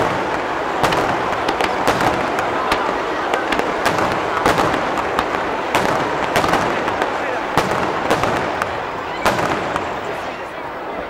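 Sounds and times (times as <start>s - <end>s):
fireworks bangs and crackles: 0.0s - 11.0s
steady dense noise: 0.0s - 11.0s.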